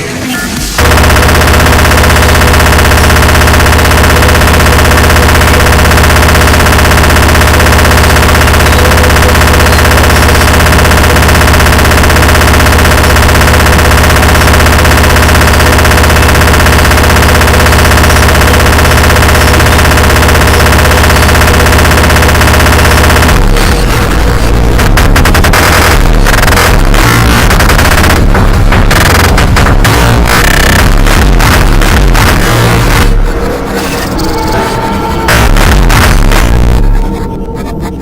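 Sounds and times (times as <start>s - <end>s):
harsh distorted noise music: 0.0s - 38.0s.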